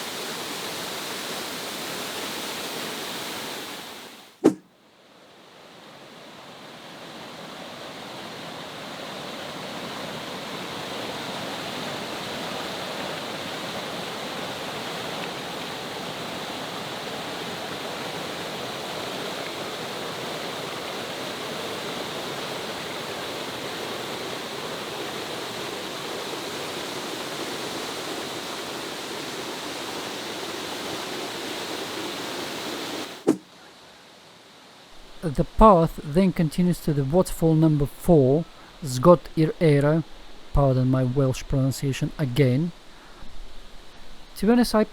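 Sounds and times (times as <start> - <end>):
waterfall rushing water: 0.0 - 4.4, 5.5 - 44.9.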